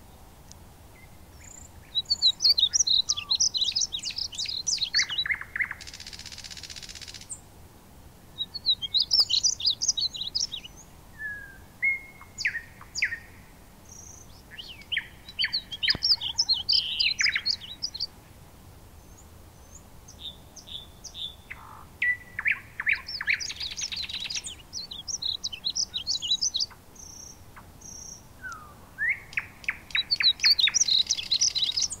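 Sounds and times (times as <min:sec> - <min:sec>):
small birds chirping: 0:00.0 - 0:07.5, 0:08.3 - 0:18.3, 0:19.0 - 0:32.0.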